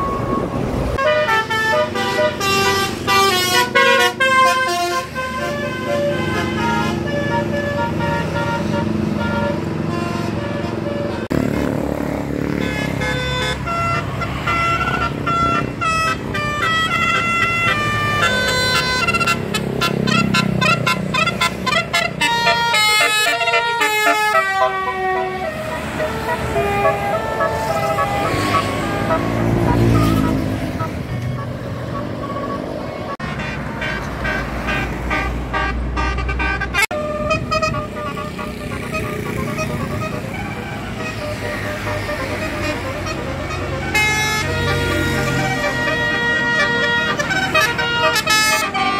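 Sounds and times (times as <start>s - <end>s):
multi-tone musical air horn: 0.0s - 11.4s, 12.5s - 48.9s
bus engine running: 0.0s - 33.2s, 33.9s - 48.9s
traffic noise: 0.0s - 48.9s.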